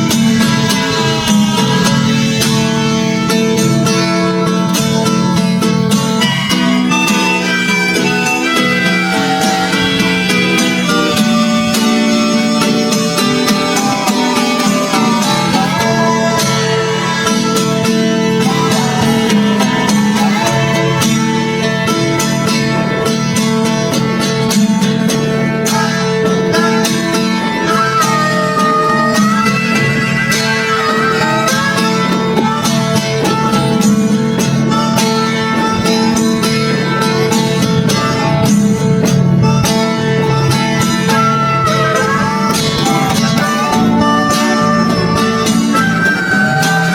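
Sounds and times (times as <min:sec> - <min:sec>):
bluegrass guitar and fiddle tune: 0:00.0 - 0:46.9.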